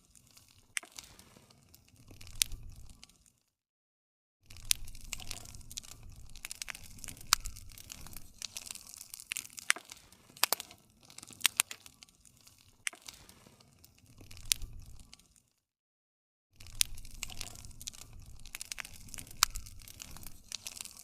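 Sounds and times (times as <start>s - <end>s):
wood fire crackling: 0.0s - 3.4s, 4.5s - 15.5s, 16.6s - 21.0s.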